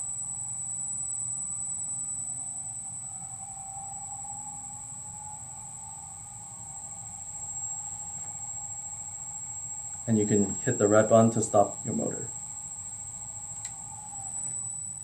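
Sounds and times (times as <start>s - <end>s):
electric motor tone: 0.0s - 15.0s
high-pitched drive whine: 0.0s - 15.0s.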